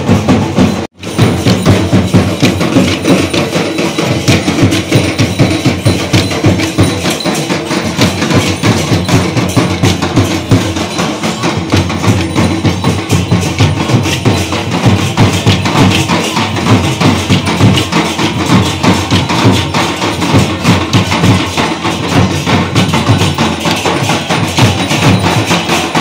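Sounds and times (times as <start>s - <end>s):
drum and cymbals rhythm: 0.0s - 26.0s.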